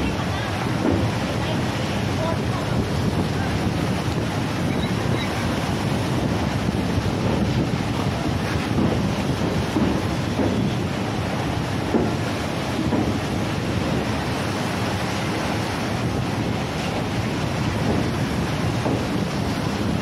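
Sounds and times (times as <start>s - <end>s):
sea water churning and sloshing: 0.0s - 20.0s
wind buffeting microphone: 0.0s - 20.0s.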